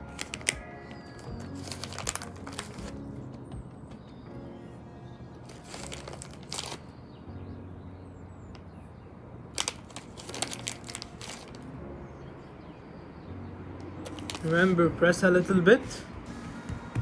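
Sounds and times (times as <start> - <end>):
faint steady background noise: 0.0 - 17.0.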